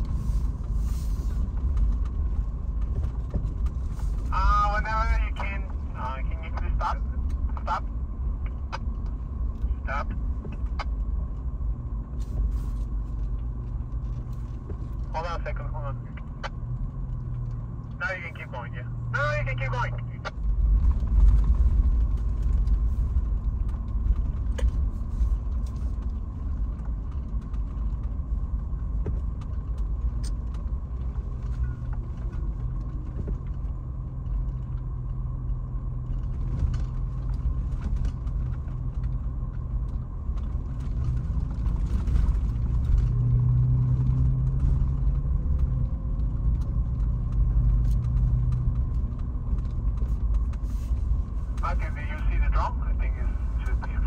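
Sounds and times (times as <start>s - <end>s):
car engine running: 0.0s - 54.0s
interior rattles and clicks: 0.0s - 54.0s
tyre and road rumble: 0.0s - 54.0s.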